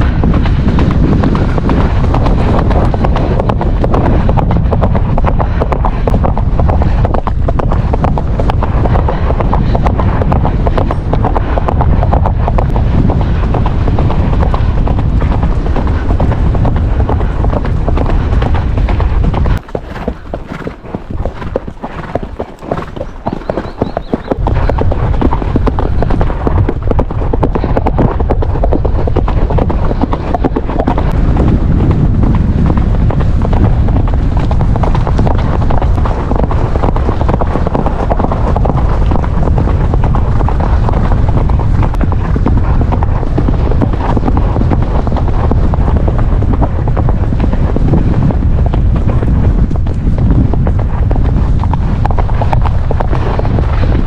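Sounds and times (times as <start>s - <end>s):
horse hoofbeats: 0.0s - 54.0s
wind buffeting microphone: 0.0s - 54.0s.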